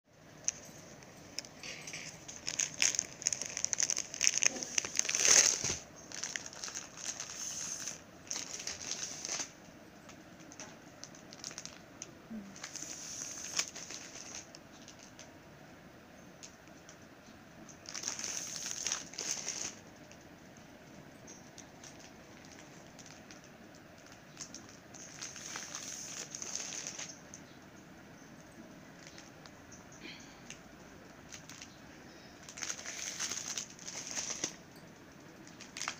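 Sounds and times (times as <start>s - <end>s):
plastic packaging crinkling: 0.4s - 15.3s, 17.6s - 27.6s, 28.3s - 35.9s.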